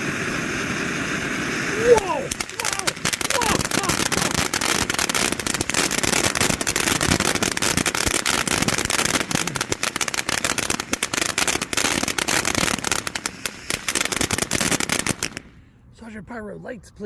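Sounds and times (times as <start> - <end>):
firework fountain hissing and crackling: 0.0 - 15.6.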